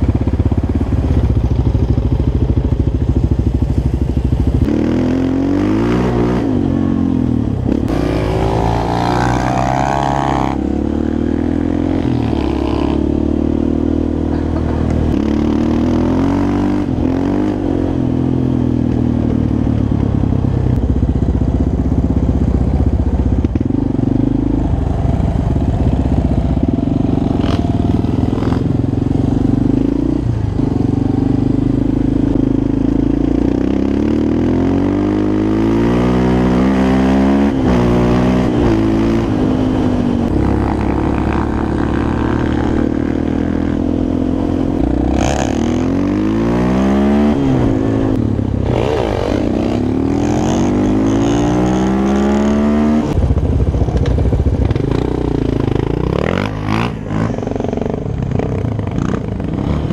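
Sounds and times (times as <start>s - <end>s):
quad bike engine revving: 0.0s - 20.2s, 23.3s - 59.9s.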